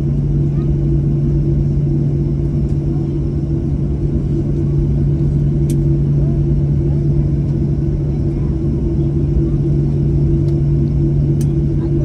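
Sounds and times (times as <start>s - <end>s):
aircraft cabin rumble and hum: 0.0s - 12.0s.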